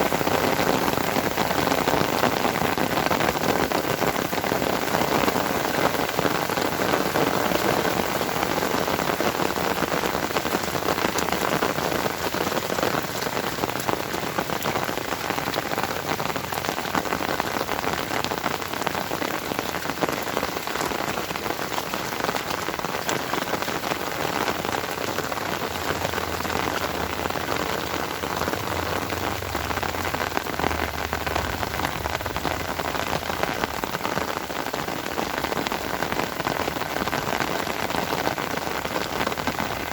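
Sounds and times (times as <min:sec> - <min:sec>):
individual raindrop ticks: 0:00.0 - 0:39.9
rain falling: 0:00.0 - 0:39.9.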